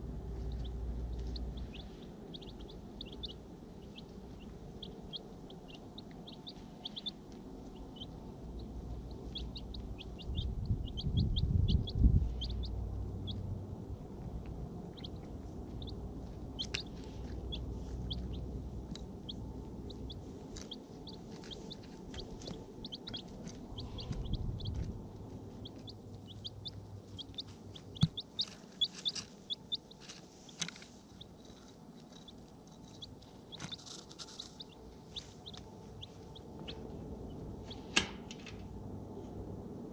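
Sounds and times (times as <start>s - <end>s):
low rumble: 0.0s - 30.0s, 34.4s - 37.9s
chicks peeping: 0.0s - 38.1s.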